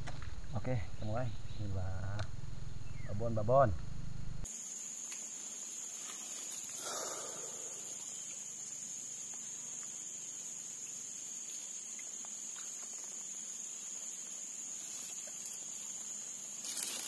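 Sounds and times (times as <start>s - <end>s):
insects droning: 0.0s - 3.8s, 4.4s - 17.0s.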